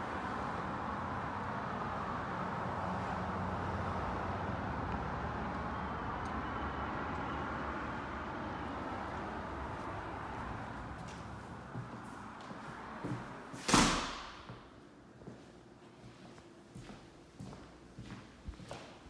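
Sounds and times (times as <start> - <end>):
road traffic passing: 0.0 - 18.4.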